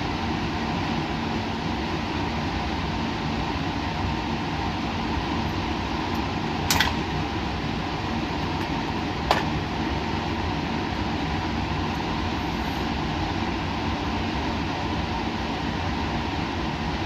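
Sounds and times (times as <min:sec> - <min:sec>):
lab machinery hum: 0:00.0 - 0:17.0.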